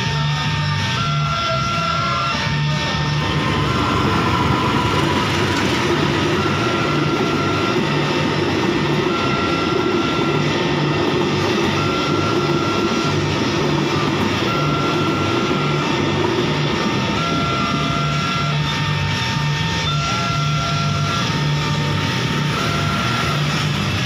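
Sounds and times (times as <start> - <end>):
crossing warning signal tone: 0.0 - 24.0
passenger train rumbling past: 0.0 - 24.0.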